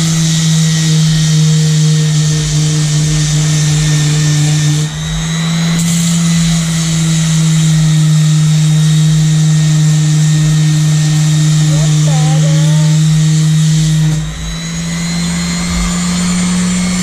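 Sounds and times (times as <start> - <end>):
power sander on metal: 0.0 - 17.0.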